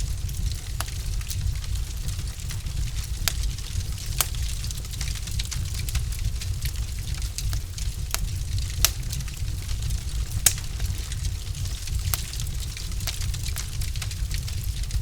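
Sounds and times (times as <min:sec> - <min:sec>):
burning logs popping: 0:00.0 - 0:15.0
low rumble of flames: 0:00.0 - 0:15.0
wood fire crackling: 0:00.0 - 0:15.0.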